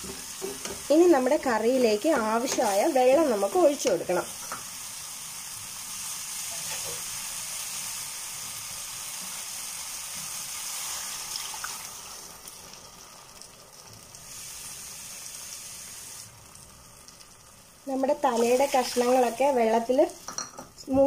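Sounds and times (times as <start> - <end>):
sauce sizzling in oil: 0.0 - 21.0.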